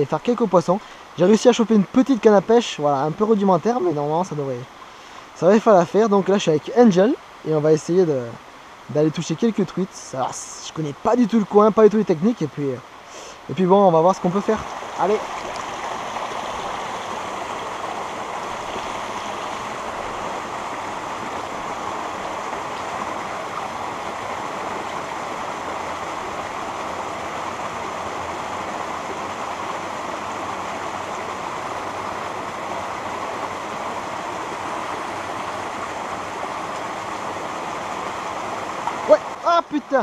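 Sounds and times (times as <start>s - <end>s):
stream flowing over stones: 0.0s - 40.0s.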